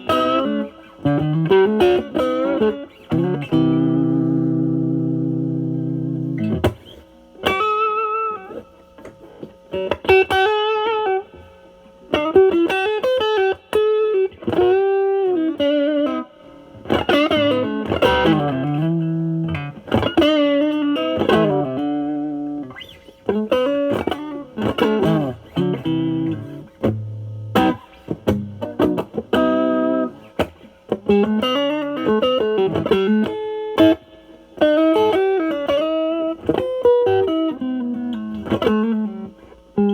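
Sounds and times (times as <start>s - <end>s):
overdriven electric guitar lead: 0.0s - 39.9s.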